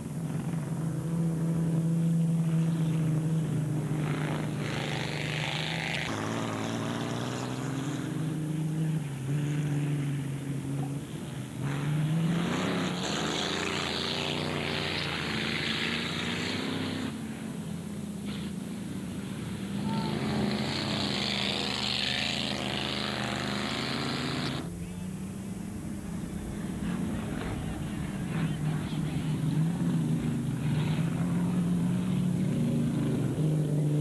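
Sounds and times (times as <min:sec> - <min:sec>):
race car engines passing: 0:00.0 - 0:34.0.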